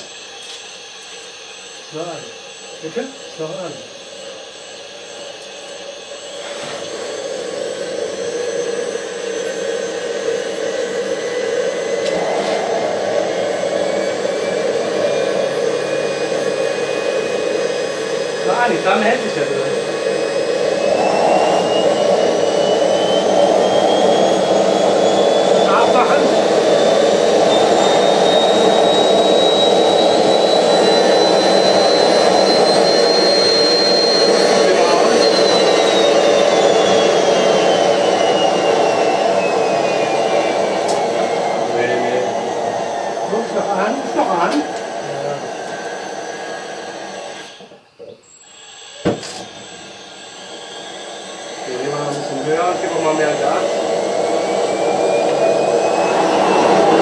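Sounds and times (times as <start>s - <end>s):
jet engine roaring: 0.0s - 47.6s, 48.6s - 57.0s
rising whine: 0.0s - 57.0s.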